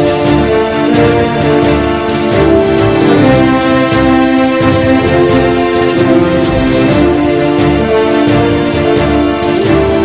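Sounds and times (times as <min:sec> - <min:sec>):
music with held chords and beat: 0:00.0 - 0:10.0.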